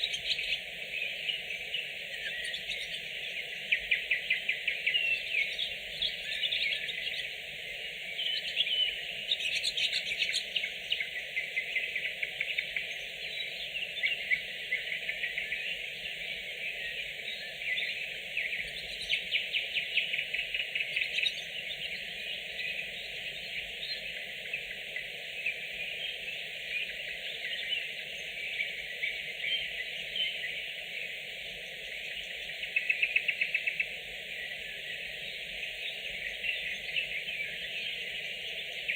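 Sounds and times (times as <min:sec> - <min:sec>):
nightingales singing: 0:00.0 - 0:38.9.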